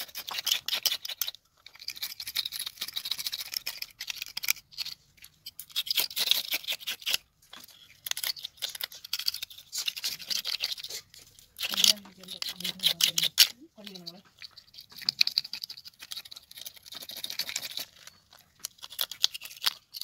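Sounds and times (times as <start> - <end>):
stick scraping fish scales: 0.0 - 20.0.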